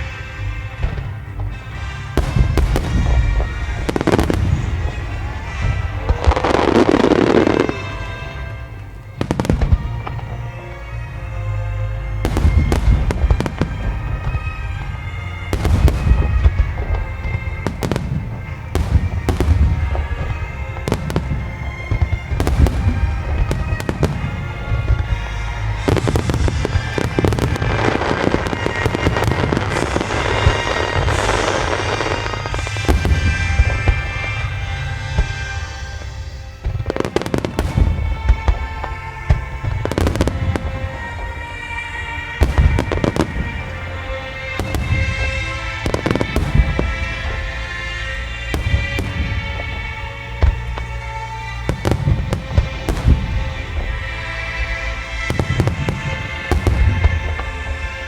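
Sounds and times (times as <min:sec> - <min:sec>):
fireworks bursting: 0:00.0 - 0:58.0
fireworks crackling: 0:00.0 - 0:58.0
orchestral music over loudspeakers: 0:00.0 - 0:58.0.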